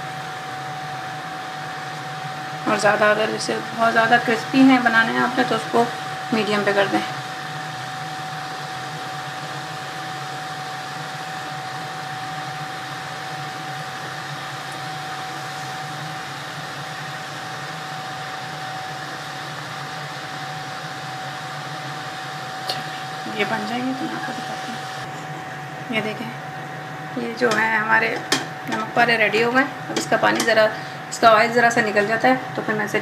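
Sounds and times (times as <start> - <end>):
deep fryer humming and hissing: 0.0 - 33.0.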